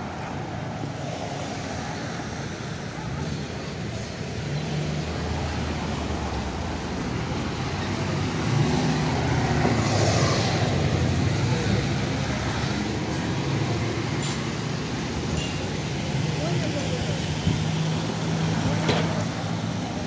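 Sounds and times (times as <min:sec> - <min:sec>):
car engines running: 0:00.0 - 0:20.0
tyres on wet pavement: 0:00.0 - 0:20.0.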